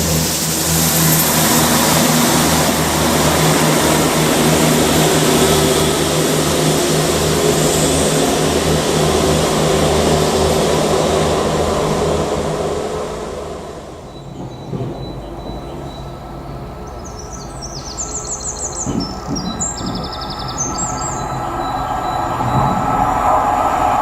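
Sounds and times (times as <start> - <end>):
diesel train engine: 0.0 - 24.0
train wheel and air rush: 0.0 - 24.0.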